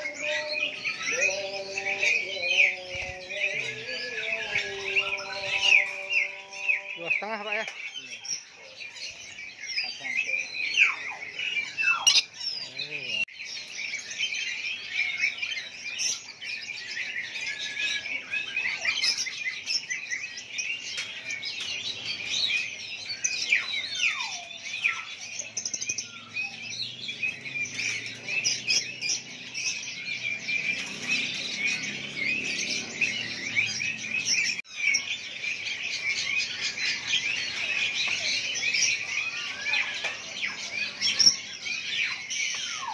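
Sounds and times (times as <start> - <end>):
caged songbirds chirping: 0.0 - 42.9.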